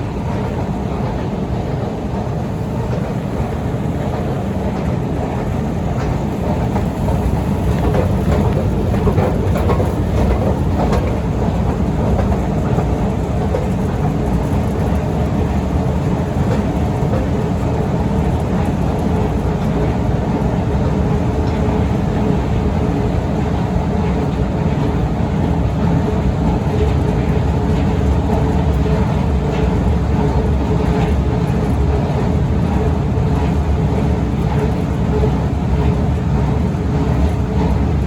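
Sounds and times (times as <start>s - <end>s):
escalator steps rumbling: 0.0s - 38.0s.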